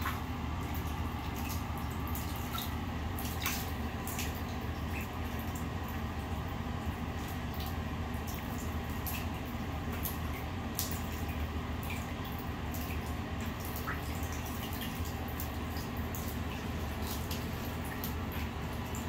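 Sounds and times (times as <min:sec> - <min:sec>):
steady low hum: 0:00.0 - 0:19.0
water splashing and dripping: 0:00.0 - 0:19.0.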